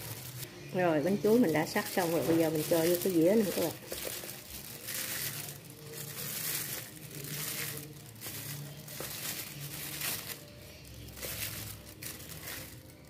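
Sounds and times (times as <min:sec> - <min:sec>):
plastic glove crinkling: 0:00.0 - 0:13.0.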